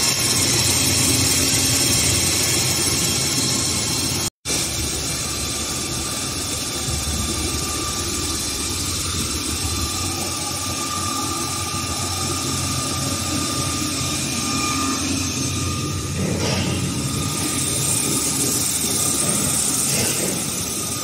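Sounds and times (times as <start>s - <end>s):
film slitting machine running: 0.0s - 21.0s.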